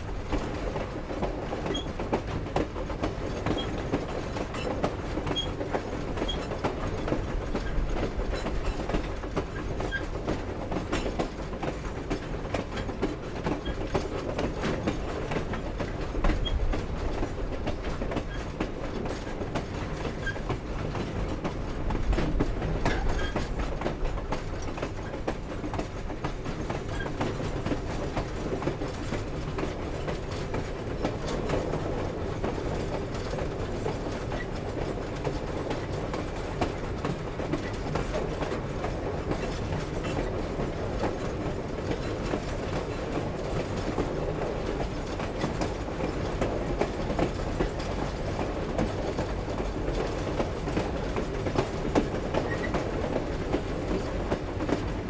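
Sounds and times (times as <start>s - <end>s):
train cars clanking and clicking: 0.0s - 55.0s
train wheels rumbling on track: 0.0s - 55.0s.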